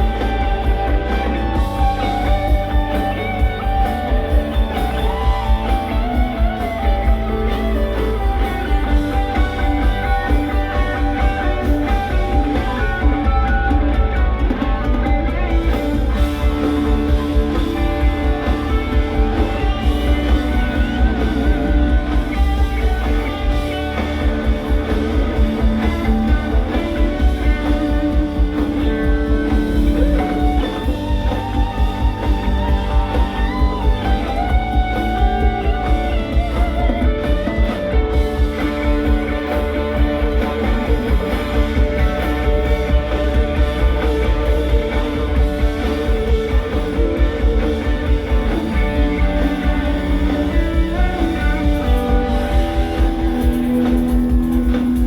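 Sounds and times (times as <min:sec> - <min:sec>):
electric guitar lines: 0:00.0 - 0:55.0
rock band playing: 0:00.0 - 0:55.0.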